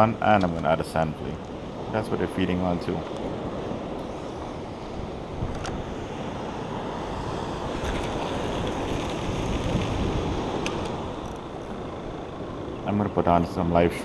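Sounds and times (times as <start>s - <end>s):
ocean surf: 0.0s - 14.0s
wind rushing across microphone: 0.0s - 14.0s.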